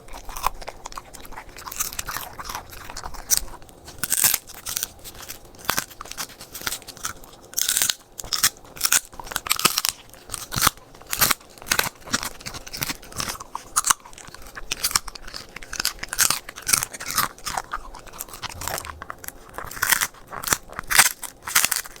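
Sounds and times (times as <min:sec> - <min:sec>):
dog chewing and crunching food: 0:00.0 - 0:22.0.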